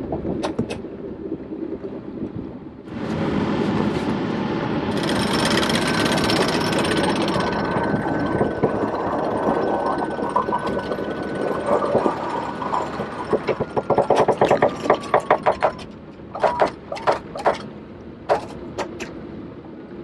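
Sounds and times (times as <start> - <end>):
steady background rumble: 0.0 - 20.0.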